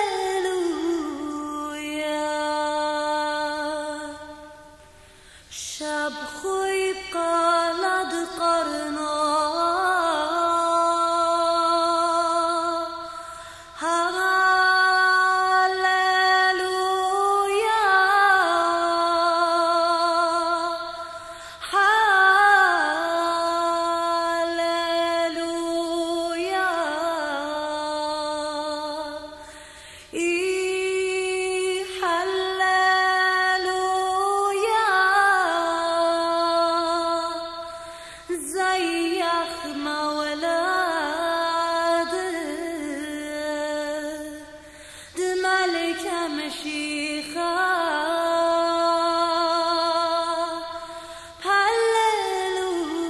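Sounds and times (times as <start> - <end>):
woman singing hymn unaccompanied: 0.0 - 4.8, 5.5 - 53.0.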